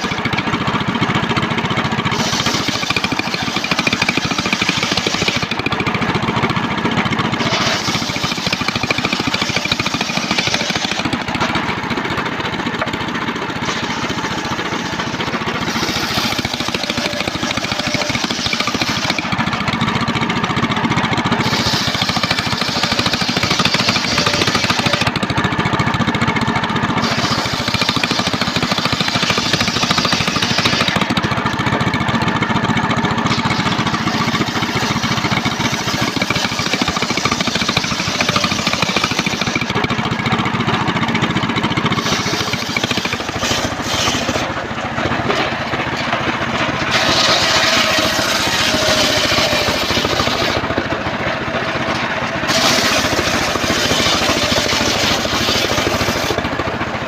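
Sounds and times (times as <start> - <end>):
circular saw blade cutting log: 0.0 - 57.0
engine running steadily: 0.0 - 57.0.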